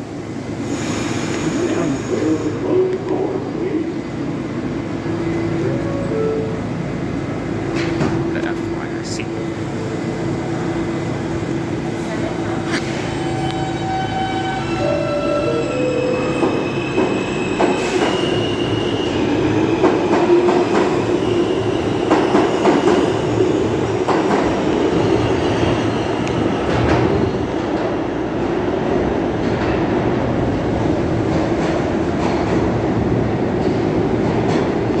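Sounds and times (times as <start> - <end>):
train wheels rumbling: 0.0 - 35.0.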